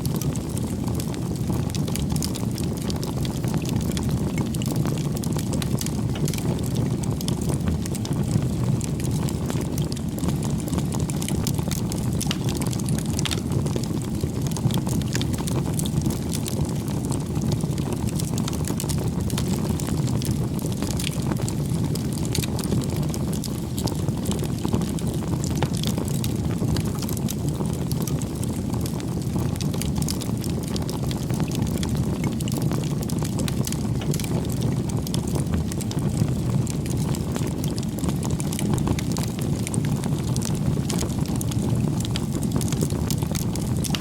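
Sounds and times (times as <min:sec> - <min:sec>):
bonfire crackling: 0:00.0 - 0:44.0.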